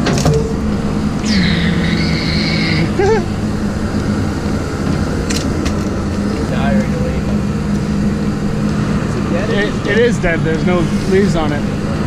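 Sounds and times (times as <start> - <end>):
excavator engine running: 0.0 - 12.0
high whine dropping in pitch: 0.0 - 12.0.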